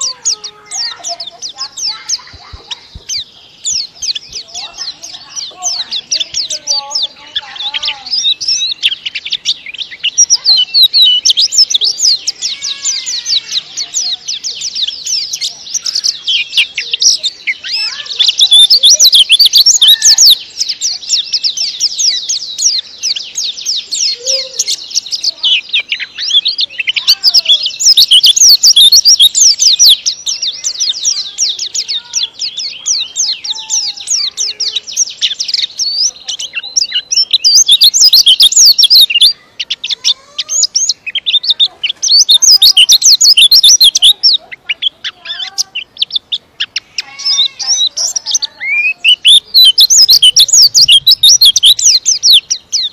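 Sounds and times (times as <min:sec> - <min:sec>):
bird twittering song: 0:00.0 - 0:52.9.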